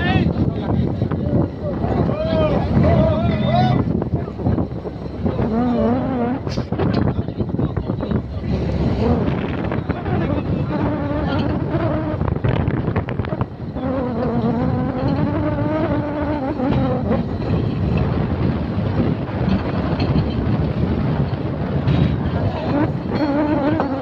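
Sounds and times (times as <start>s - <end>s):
boat motor droning: 0.0s - 24.0s.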